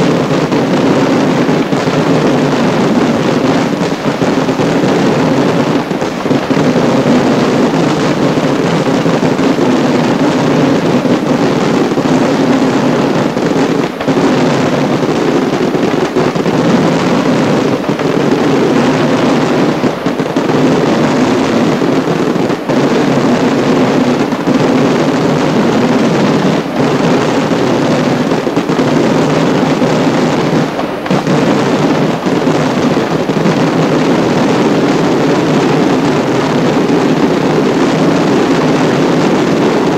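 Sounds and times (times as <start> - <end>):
fireworks exploding: 0.0 - 39.9.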